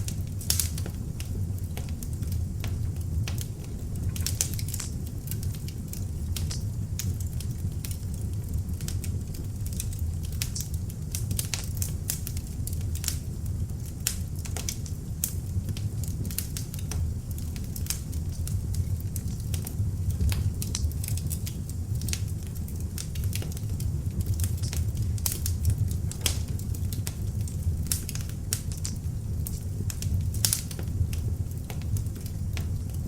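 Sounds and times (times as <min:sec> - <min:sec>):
log fire crackling and popping: 0:00.0 - 0:33.0.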